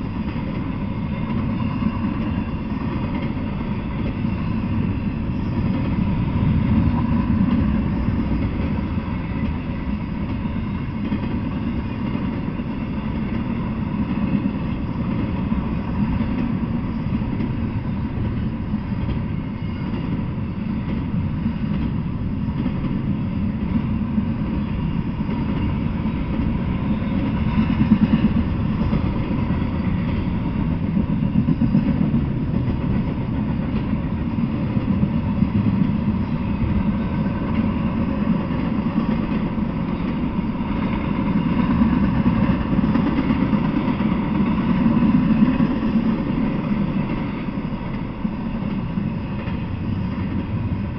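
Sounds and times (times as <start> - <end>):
freight train wheels rumbling: 0.0 - 50.9.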